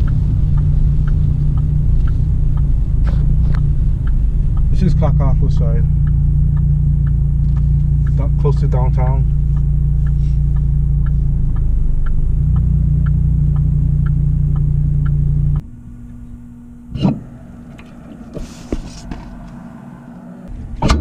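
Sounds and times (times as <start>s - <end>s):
car engine and road noise: 0.0s - 21.0s
quiet hum: 0.0s - 21.0s
turn signal clicking: 0.0s - 21.0s.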